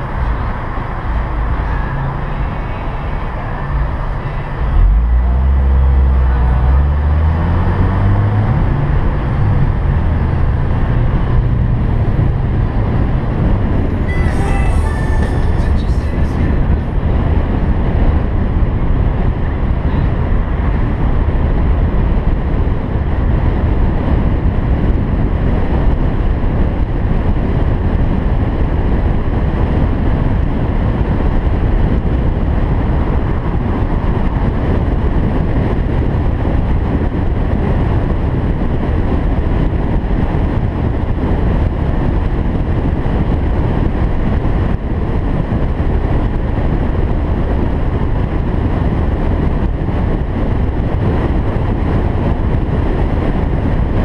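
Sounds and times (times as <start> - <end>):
car driving low rumble: 0.0 - 54.0.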